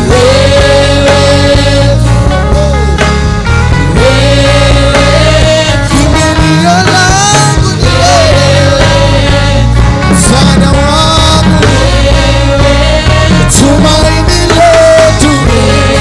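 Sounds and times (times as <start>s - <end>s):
live gospel band music: 0.0s - 16.0s.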